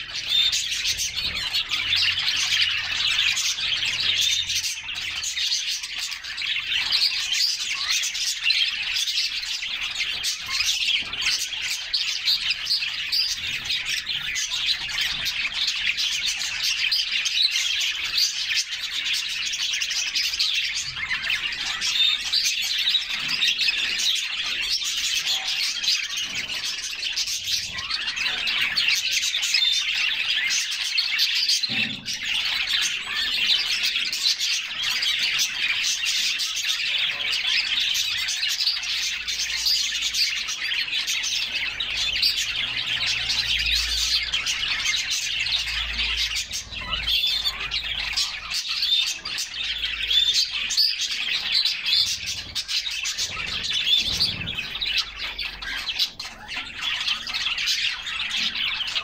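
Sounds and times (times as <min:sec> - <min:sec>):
canaries chirping and singing: 0:00.0 - 0:59.0.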